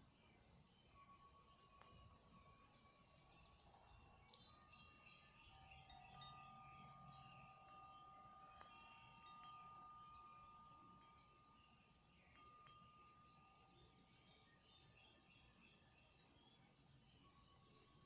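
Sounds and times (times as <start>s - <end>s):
wind chimes ringing: 0.0s - 18.0s.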